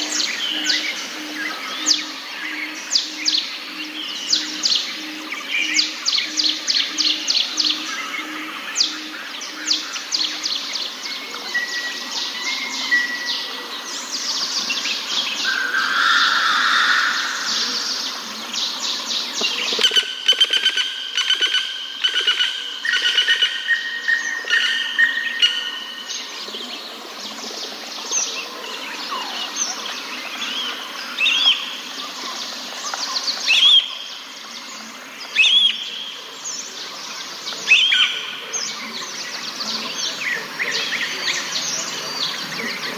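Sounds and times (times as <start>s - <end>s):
birds chirping and trilling: 0.0s - 42.9s
forest background hum: 0.0s - 42.9s.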